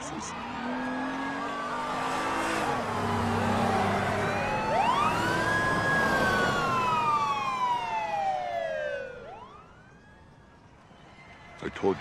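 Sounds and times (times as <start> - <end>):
car engine hum: 0.0 - 10.1
police sirens wailing: 0.0 - 11.0.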